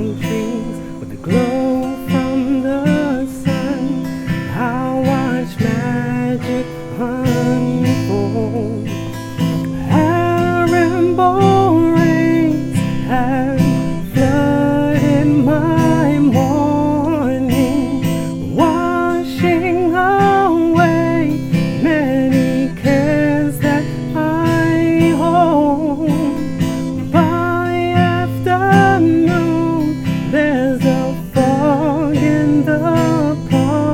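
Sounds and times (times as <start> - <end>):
strummed acoustic guitar: 0.0 - 33.9.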